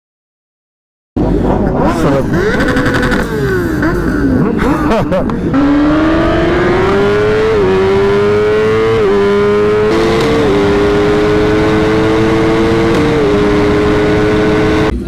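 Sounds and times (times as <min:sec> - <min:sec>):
high-performance engine upshifting: 0:01.2 - 0:15.0
second engine running: 0:01.2 - 0:15.0.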